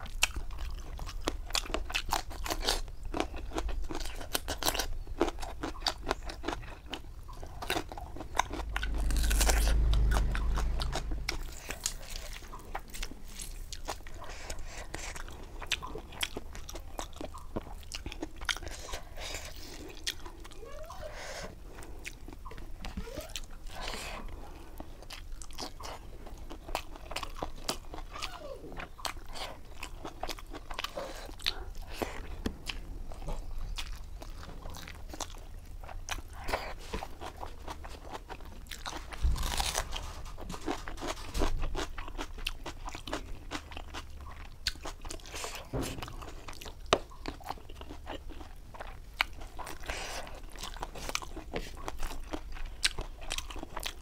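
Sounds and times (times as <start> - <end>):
chewing with crisp crunching: 0.0 - 54.0.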